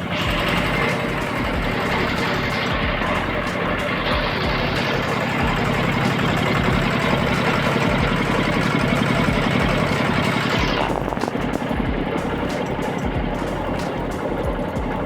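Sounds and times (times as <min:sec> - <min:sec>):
machine running loudly: 0:00.0 - 0:15.0.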